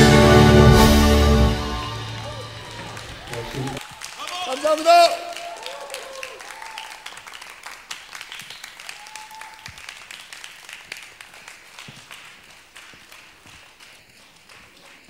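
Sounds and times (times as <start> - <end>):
audience applause: 0.0 - 15.0.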